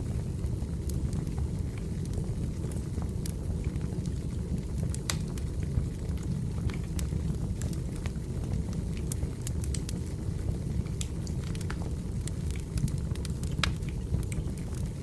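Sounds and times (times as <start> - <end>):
burning firewood crackling and popping: 0.0 - 15.0
low rumble of flames: 0.0 - 15.0.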